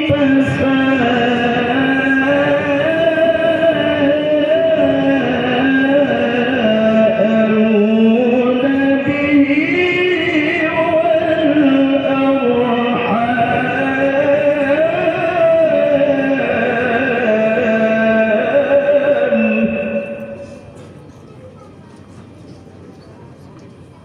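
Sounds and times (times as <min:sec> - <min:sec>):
man reciting melodically: 0:00.0 - 0:20.7.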